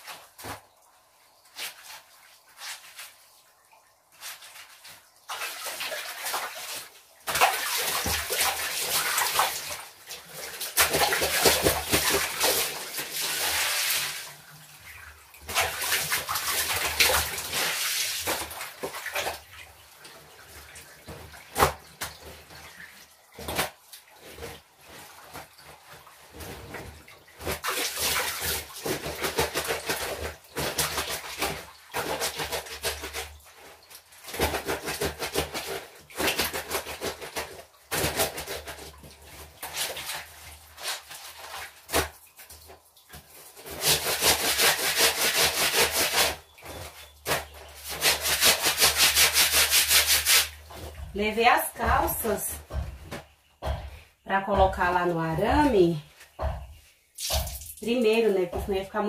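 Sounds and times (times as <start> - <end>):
water splashing in basin: 4.1 - 59.0.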